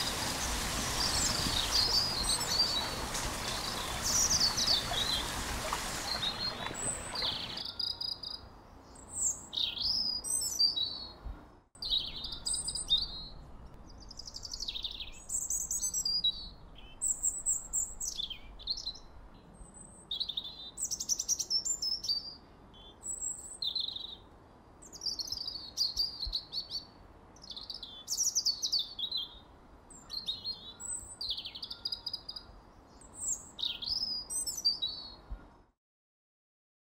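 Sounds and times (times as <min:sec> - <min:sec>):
songbird singing: 0:00.0 - 0:35.6.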